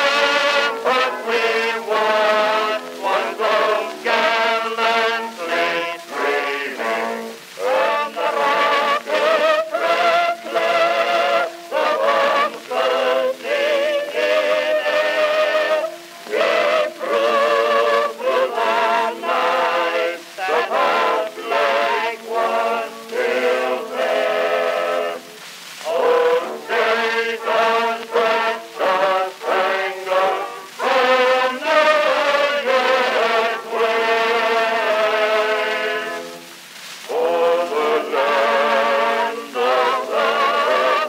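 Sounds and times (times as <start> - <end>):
chant-like singing voices: 0.0 - 41.0.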